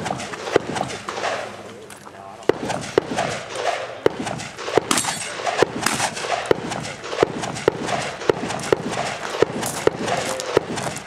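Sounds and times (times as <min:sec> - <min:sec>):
gunshots: 0:00.0 - 0:01.7, 0:02.4 - 0:11.0.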